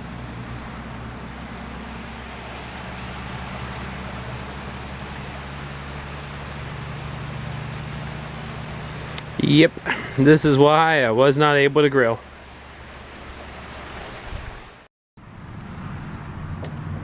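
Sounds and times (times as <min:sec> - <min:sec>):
heavy rain falling: 0:00.0 - 0:14.9
low steady hum: 0:00.0 - 0:17.0.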